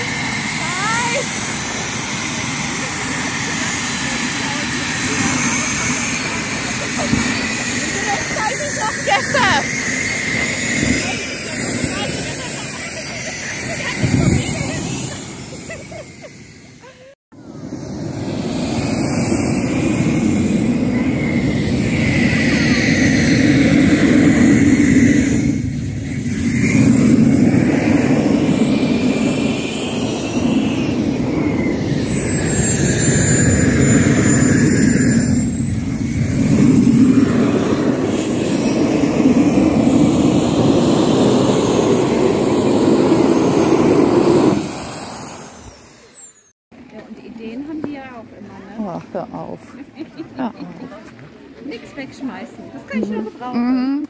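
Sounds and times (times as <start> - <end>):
jet engine with turbine whine: 0.0 - 46.6.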